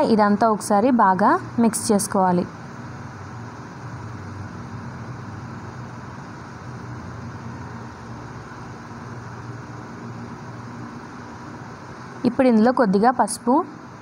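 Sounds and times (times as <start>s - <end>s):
low even hum: 0.0s - 14.0s.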